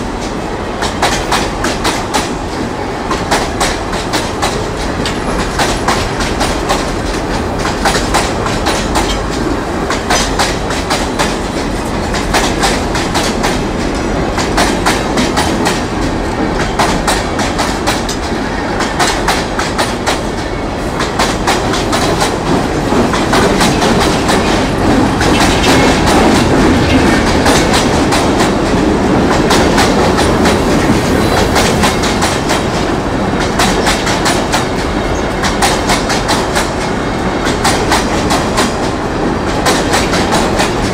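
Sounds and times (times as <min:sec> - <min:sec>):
rumble of wheels on rail: 0:00.0 - 0:40.9.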